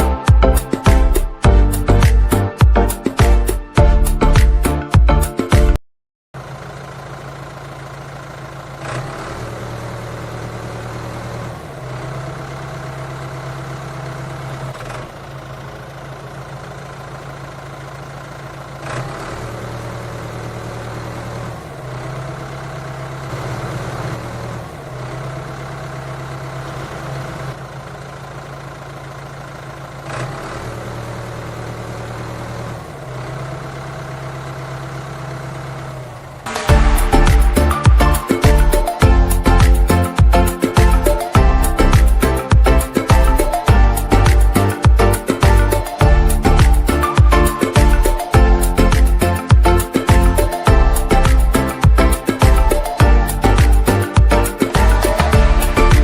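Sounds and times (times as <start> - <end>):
engine running: 0.0 - 5.8, 6.4 - 56.0.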